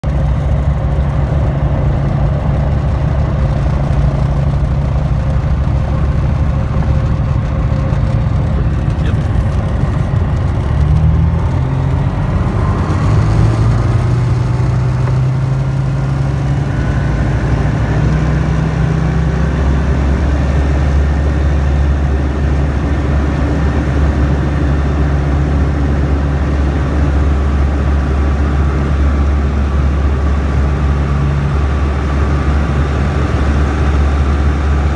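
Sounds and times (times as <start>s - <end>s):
light aircraft engine and propeller: 0.0s - 34.9s.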